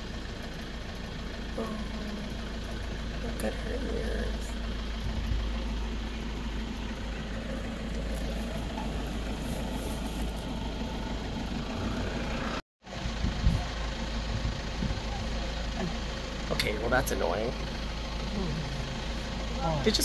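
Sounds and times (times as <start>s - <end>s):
jeep engine idling: 0.0s - 20.0s.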